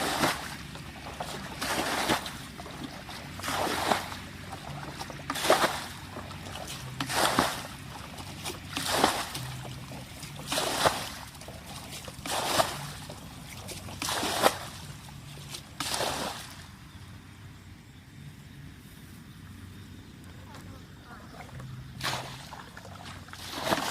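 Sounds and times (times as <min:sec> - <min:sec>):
water splashing: 0:00.0 - 0:16.8, 0:20.6 - 0:23.9.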